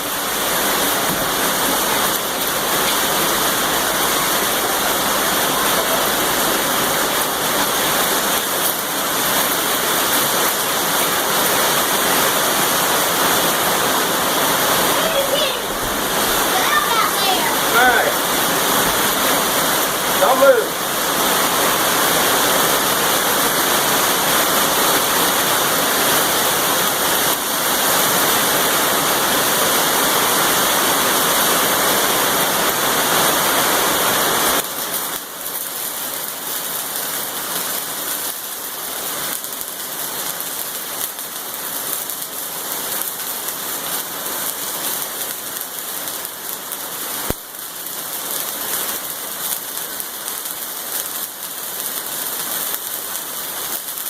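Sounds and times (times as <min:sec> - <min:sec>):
welding arc crackling and sizzling: 0:00.0 - 0:54.0.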